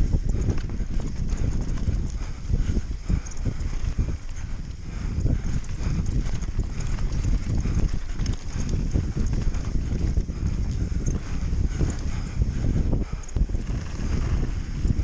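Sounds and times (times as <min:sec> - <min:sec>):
bike clattering and rattling: 0:00.0 - 0:15.0.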